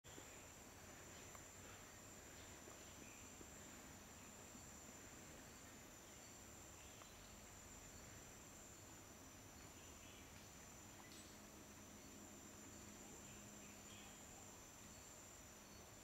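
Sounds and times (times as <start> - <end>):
crickets droning: 0.0 - 16.0.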